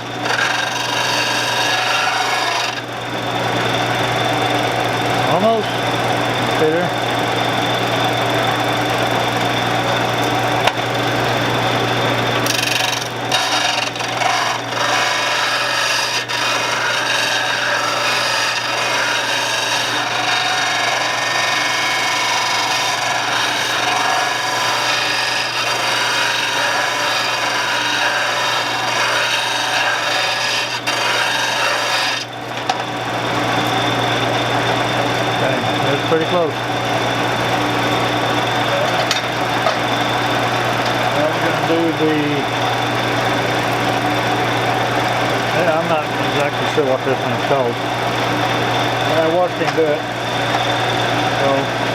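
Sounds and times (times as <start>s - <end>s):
motor running: 0.0s - 51.9s
tool grinding on abrasive: 0.0s - 51.9s.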